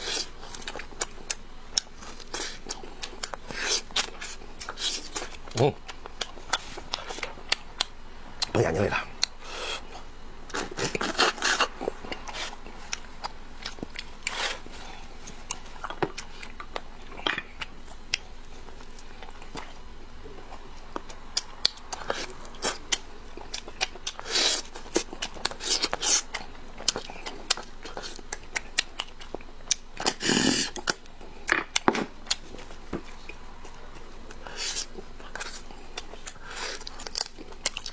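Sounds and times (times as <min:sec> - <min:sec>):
person biting and chewing food: 0:00.0 - 0:37.9.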